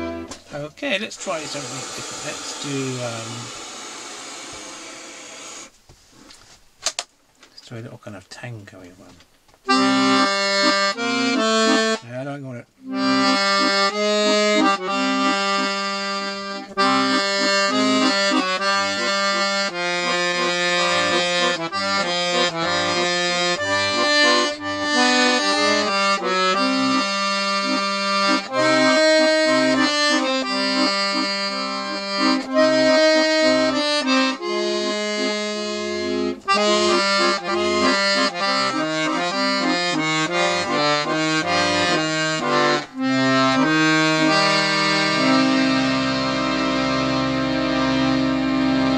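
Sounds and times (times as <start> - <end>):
piano accordion playing a tune: 0.0 - 5.7, 9.7 - 48.9.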